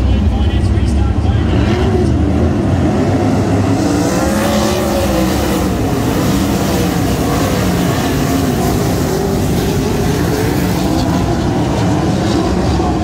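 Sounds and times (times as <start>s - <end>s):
race car engines roaring: 0.0s - 13.0s.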